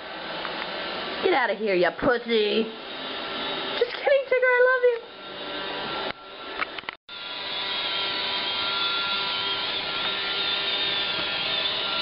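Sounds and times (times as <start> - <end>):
robot vacuum whirring: 1.4 - 12.0.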